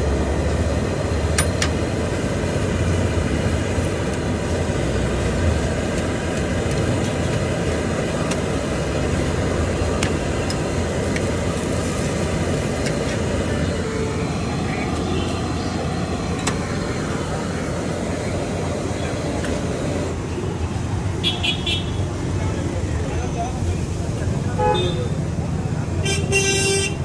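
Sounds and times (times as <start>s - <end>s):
street noise rumble: 0.0s - 27.0s.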